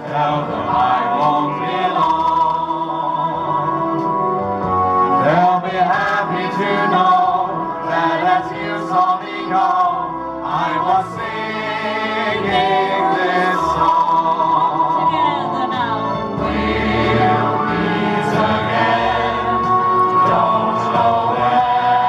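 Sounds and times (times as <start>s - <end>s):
group of people singing: 0.0s - 22.0s
musical accompaniment: 0.0s - 22.0s.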